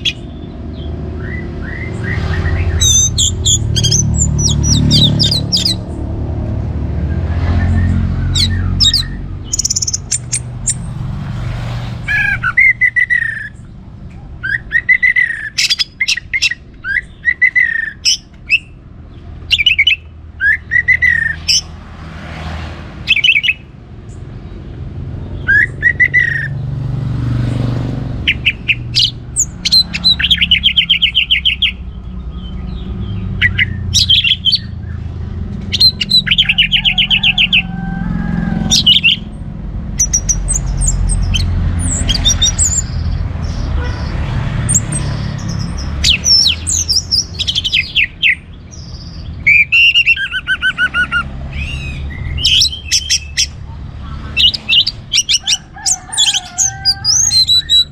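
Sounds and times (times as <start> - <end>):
bird singing trills and whistles: 0.0 - 6.0, 7.4 - 10.9, 12.0 - 13.8, 14.4 - 21.7, 23.0 - 23.7, 25.3 - 26.7, 28.2 - 37.7, 38.6 - 39.4, 40.0 - 44.1, 44.7 - 57.9.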